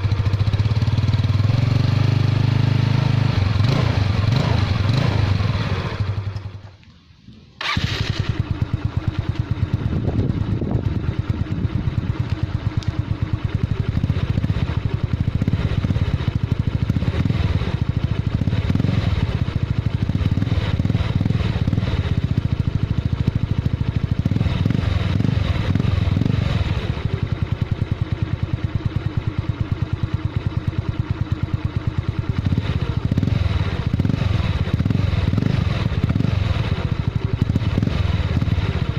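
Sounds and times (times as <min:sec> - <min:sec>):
scooter engine exhaust: 0:00.0 - 0:38.9.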